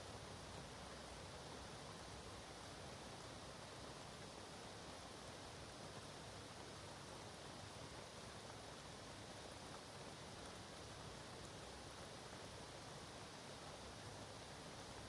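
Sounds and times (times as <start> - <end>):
light rain in woodland: 0.0 - 15.0.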